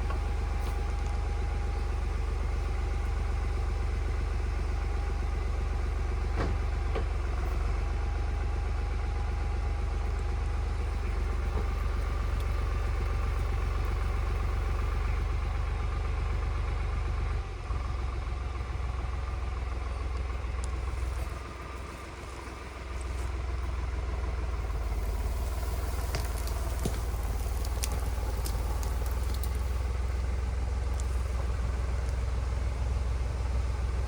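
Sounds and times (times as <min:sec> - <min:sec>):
tractor engine droning: 0:00.0 - 0:34.0.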